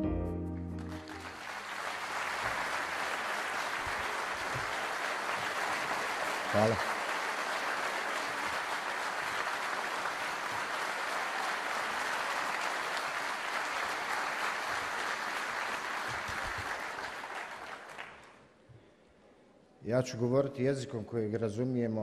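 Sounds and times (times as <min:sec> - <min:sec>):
audience applauding: 0:00.7 - 0:18.5.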